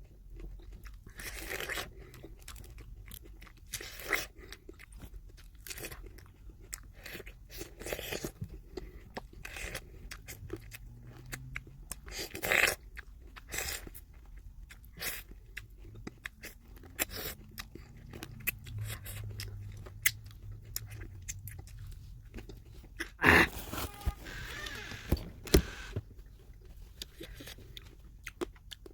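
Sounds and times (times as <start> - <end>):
chewing and biting fruit: 0.0 - 28.9.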